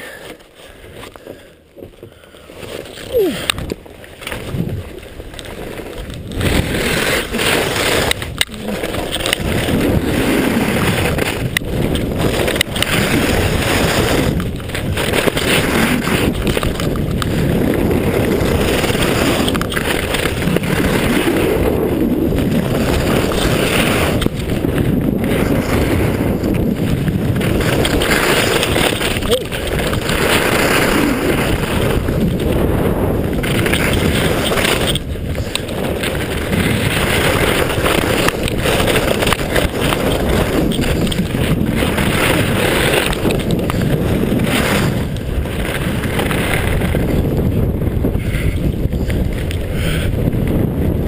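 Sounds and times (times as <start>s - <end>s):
skis scraping over snow: 0.0s - 51.0s
wind rushing on microphone: 2.9s - 51.0s.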